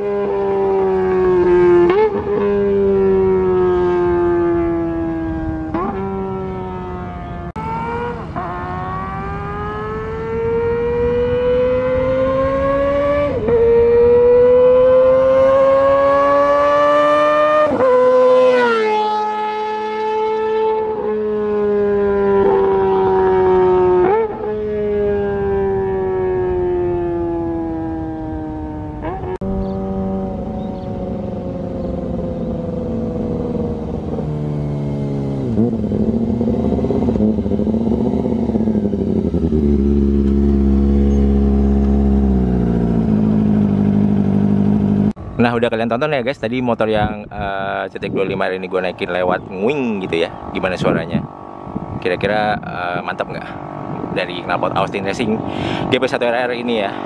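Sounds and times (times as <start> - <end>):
motorcycle engine revving: 0.0 - 45.6, 47.9 - 57.0.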